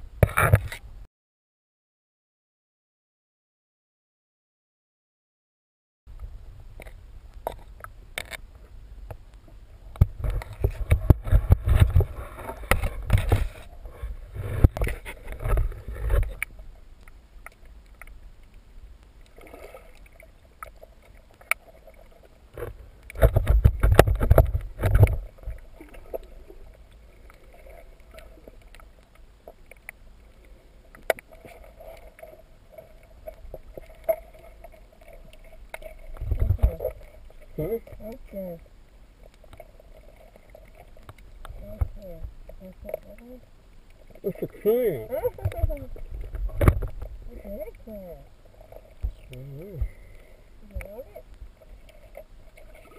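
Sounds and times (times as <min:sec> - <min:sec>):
underwater bubbling: 0:06.1 - 0:52.9.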